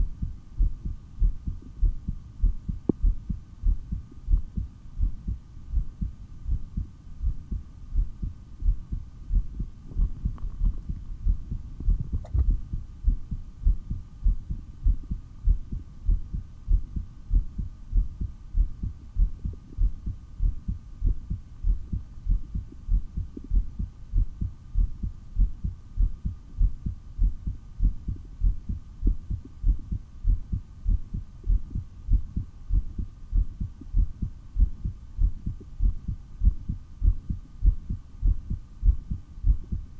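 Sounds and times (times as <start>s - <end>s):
heartbeat through a stethoscope: 0.0s - 39.9s.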